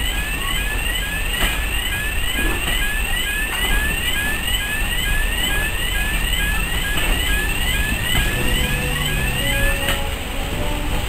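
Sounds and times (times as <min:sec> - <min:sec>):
electronic alarm yelping: 0:00.0 - 0:10.0
railway coaches rumbling: 0:00.0 - 0:11.0
train wheel clicks: 0:00.0 - 0:11.0.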